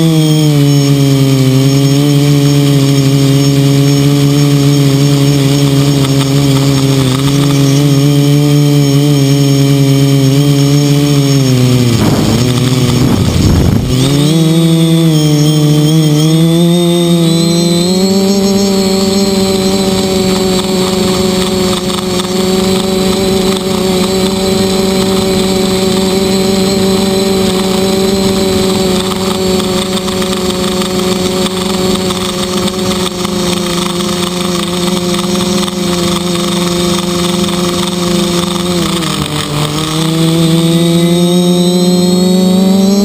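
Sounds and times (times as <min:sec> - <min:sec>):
quadcopter motors whirring: 0:00.0 - 0:43.0.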